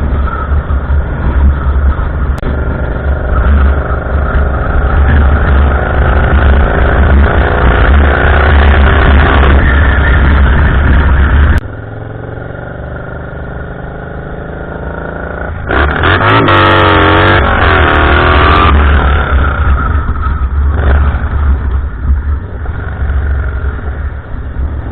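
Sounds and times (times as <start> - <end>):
vehicle engine revving: 1.1 - 24.9.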